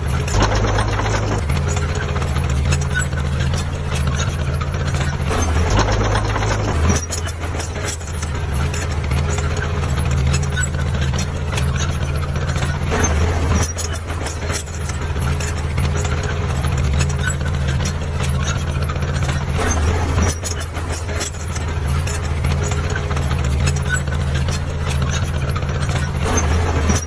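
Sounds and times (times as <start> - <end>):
heavy diesel machinery engine: 0.0 - 27.0
metal clanks and knocks: 0.0 - 27.0.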